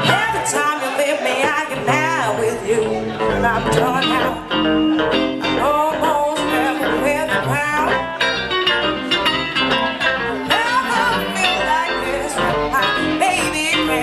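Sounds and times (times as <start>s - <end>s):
woman singing into microphone: 0.0s - 8.2s, 10.2s - 14.0s
electric bass and guitar: 0.0s - 14.0s.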